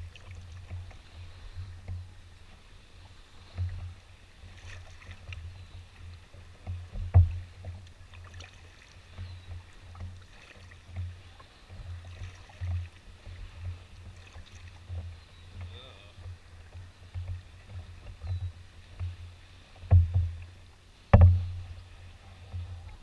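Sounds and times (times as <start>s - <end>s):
water splashing against hull: 0.0s - 23.0s.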